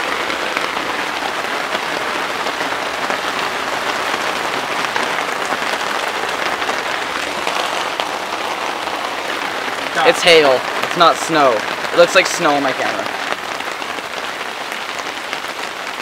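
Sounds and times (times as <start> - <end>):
hail pattering: 0.0 - 16.0.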